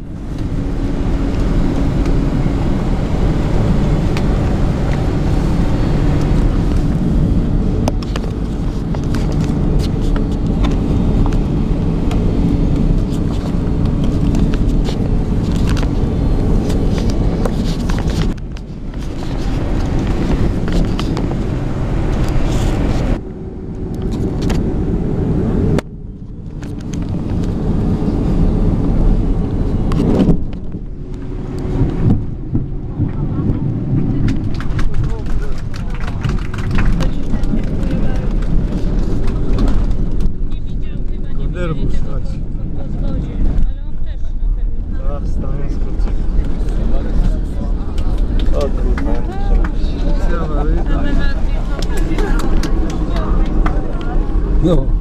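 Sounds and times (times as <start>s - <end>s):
aircraft cabin roar: 0.0s - 55.0s
low hum: 0.0s - 55.0s.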